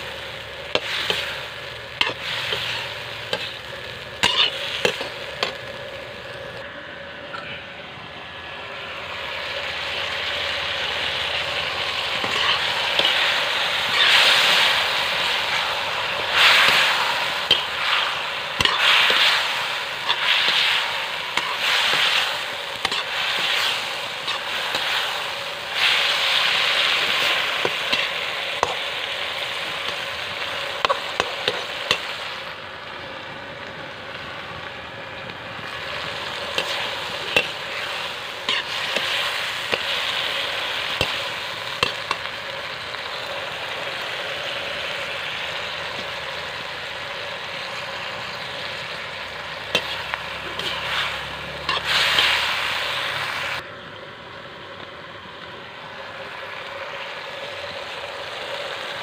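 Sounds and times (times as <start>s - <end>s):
food sizzling in wok: 0.0s - 7.1s, 7.8s - 59.0s.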